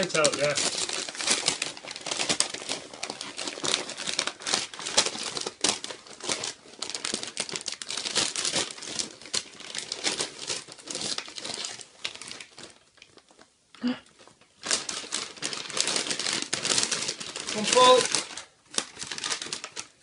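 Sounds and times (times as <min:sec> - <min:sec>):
wrapping paper crinkling: 0:00.0 - 0:20.0.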